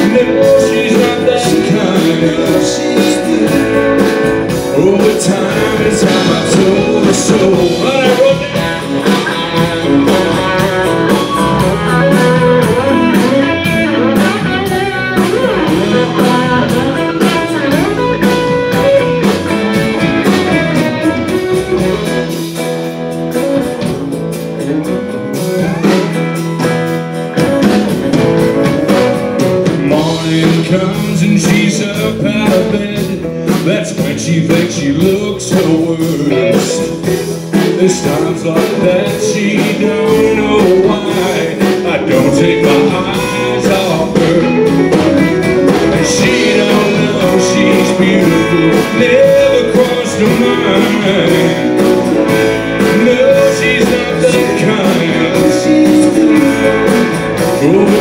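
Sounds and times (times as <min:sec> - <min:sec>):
lead guitar: 0:00.0 - 0:58.0
live country band playing: 0:00.0 - 0:58.0.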